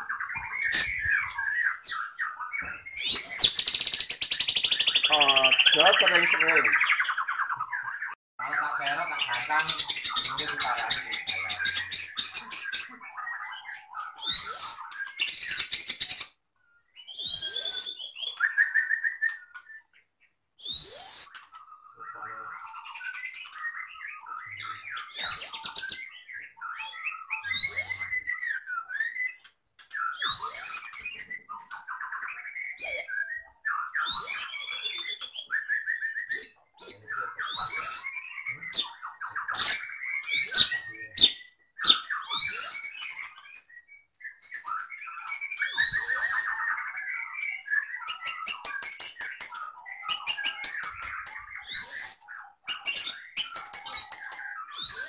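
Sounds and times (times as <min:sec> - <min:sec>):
songbird singing with whistled sweeps: 0:00.0 - 0:55.0.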